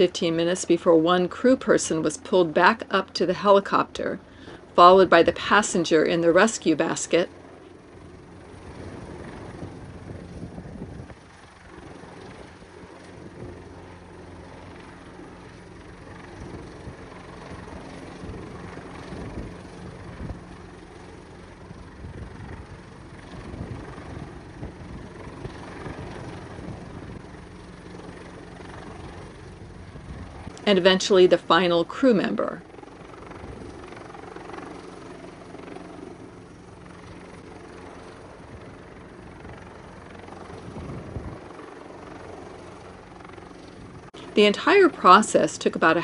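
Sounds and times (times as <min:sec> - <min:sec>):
helicopter hovering: 0:00.0 - 0:46.0.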